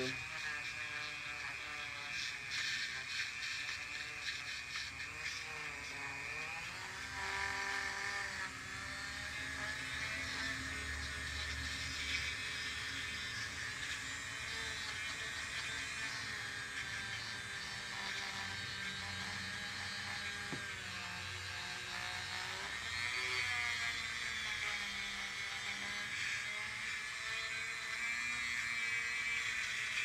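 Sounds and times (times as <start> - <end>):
rotary tool whining: 0.0 - 30.0.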